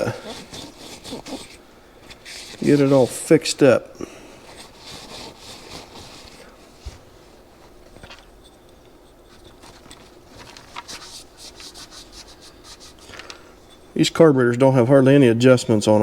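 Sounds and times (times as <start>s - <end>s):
scratching and rubbing strokes: 0.0s - 3.7s, 4.4s - 14.0s.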